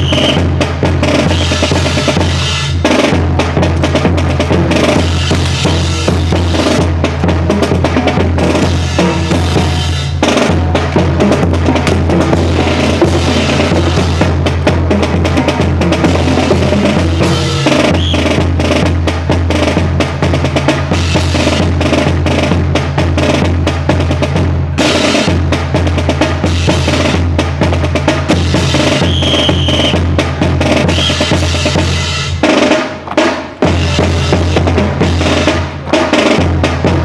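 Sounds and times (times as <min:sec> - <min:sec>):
marching snare and bass drums: 0:00.0 - 0:37.0.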